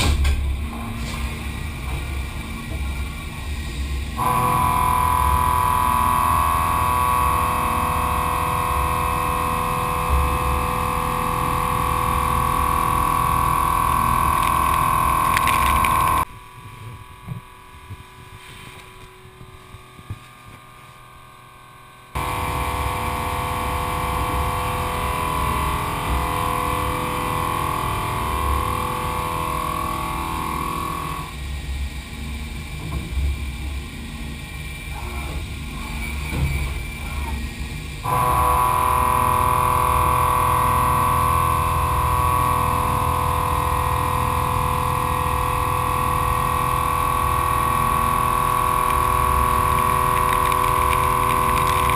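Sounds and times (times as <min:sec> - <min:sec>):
milling machine cutting tone: 0:01.6 - 0:18.2, 0:18.9 - 0:32.7, 0:34.4 - 0:51.9.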